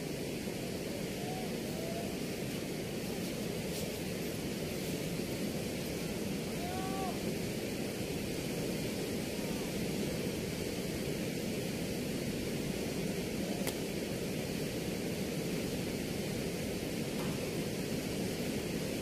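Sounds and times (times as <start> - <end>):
water rushing through sluice gate: 0.0 - 19.0.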